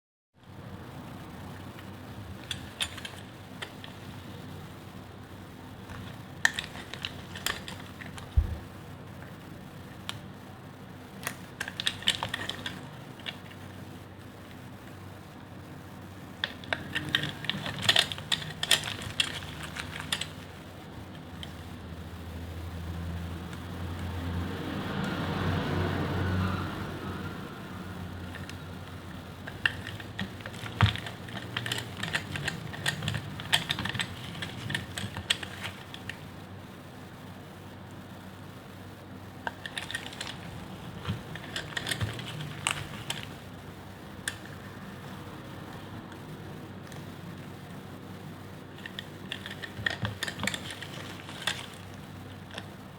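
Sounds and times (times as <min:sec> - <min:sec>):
faint low hum: 0:00.4 - 0:52.9
crunchy clicks and crackles: 0:01.0 - 0:25.2, 0:28.1 - 0:52.9.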